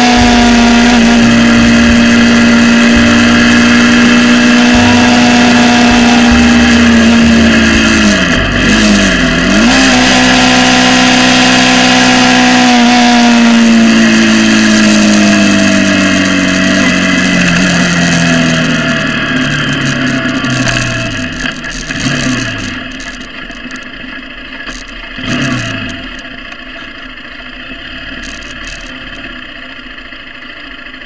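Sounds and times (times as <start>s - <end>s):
motorcycle engine: 0.0s - 31.0s.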